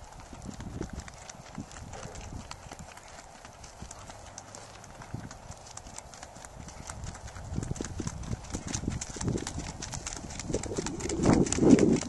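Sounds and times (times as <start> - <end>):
horse hoofbeats on gravel: 0.0 - 12.0.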